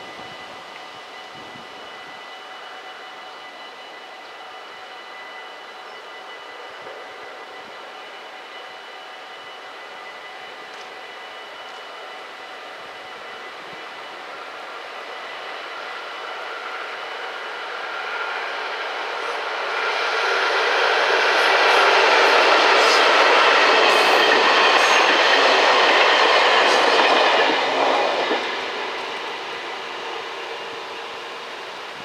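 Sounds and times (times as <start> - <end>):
train wheels on rail: 0.0 - 32.0.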